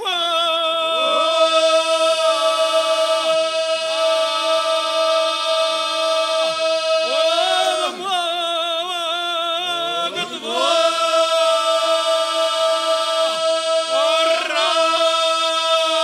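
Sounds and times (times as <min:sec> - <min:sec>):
men singing a cappella: 0:00.0 - 0:16.0.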